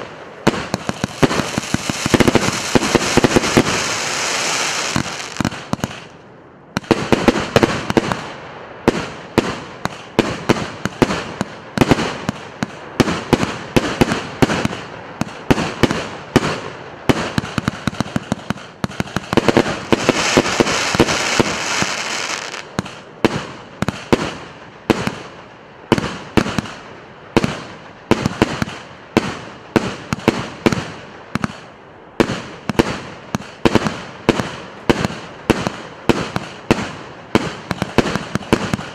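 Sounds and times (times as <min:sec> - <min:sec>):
firework bangs: 0:00.0 - 0:06.2, 0:06.8 - 0:38.9
firework crackling: 0:00.0 - 0:06.2, 0:06.8 - 0:38.9.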